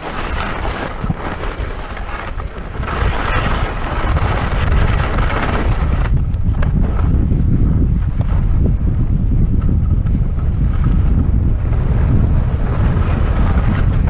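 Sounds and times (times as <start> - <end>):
skis sliding on snow: 0.0 - 8.8, 10.0 - 14.0
wind buffeting microphone: 0.0 - 14.0.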